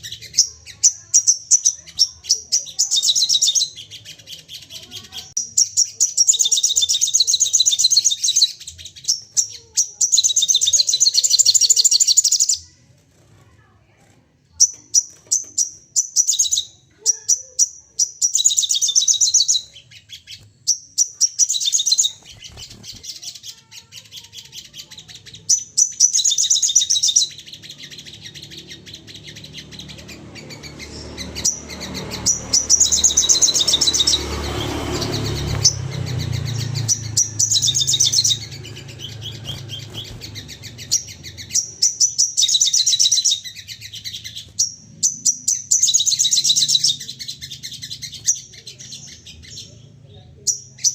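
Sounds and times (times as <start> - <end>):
songbirds chirping rapidly: 0.0 - 50.9.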